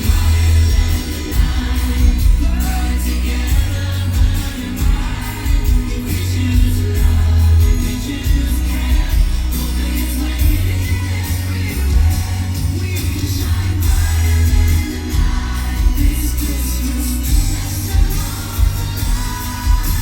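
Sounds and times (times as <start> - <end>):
pop song with singing: 0.0 - 20.0
steady bass line: 0.0 - 20.0.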